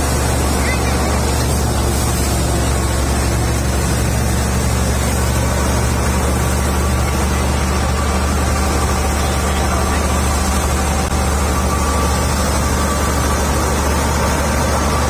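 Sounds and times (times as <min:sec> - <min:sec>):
thresher machine droning: 0:00.0 - 0:15.0.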